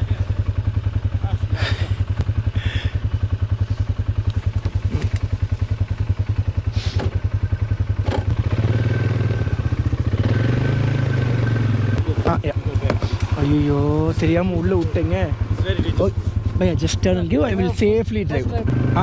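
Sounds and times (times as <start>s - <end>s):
quad bike engine running: 0.0s - 19.0s.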